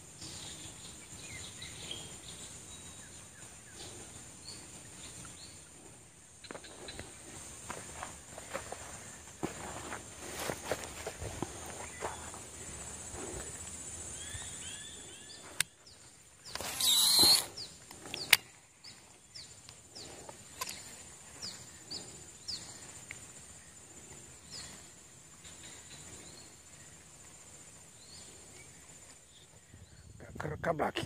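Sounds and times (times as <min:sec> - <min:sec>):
high insect-like hiss: 0:00.0 - 0:31.0.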